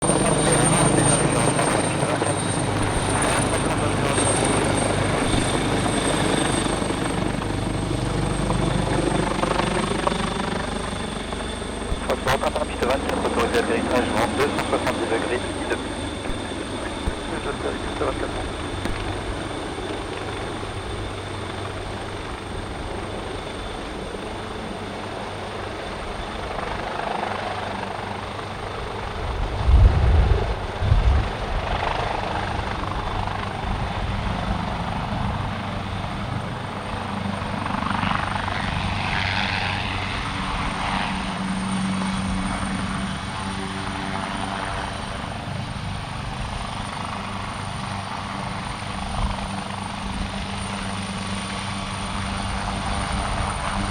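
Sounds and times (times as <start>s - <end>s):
helicopter rotor and turbines: 0.0s - 53.9s.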